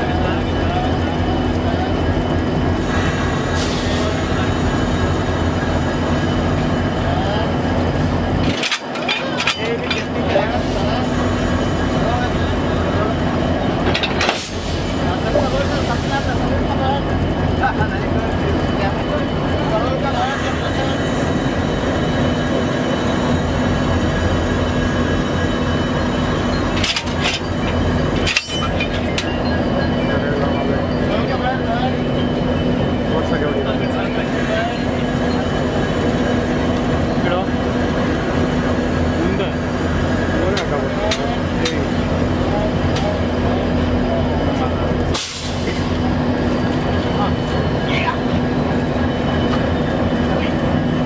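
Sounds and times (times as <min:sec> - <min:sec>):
diesel locomotive engines idling: 0:00.0 - 0:51.0.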